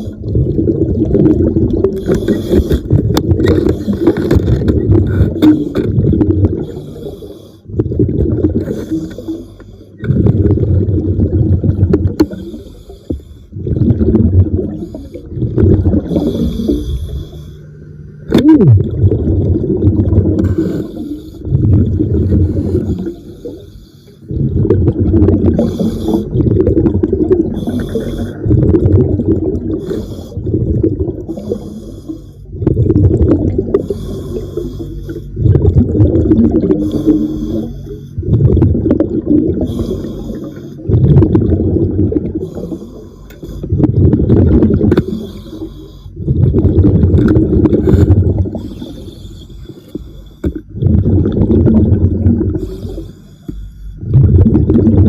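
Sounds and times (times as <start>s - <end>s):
diver exhaling bubbles: 0.0s - 55.0s.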